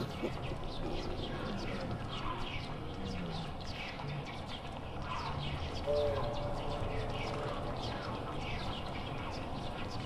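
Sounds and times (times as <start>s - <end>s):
background hum of woods: 0.0s - 10.0s
small birds chirping: 0.0s - 10.0s.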